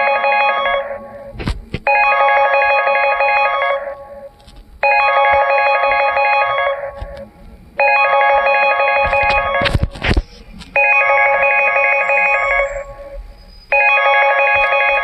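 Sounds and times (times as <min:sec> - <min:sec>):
electronic phone ringtone trill: 0:00.0 - 0:07.2, 0:07.8 - 0:09.9, 0:10.8 - 0:15.0.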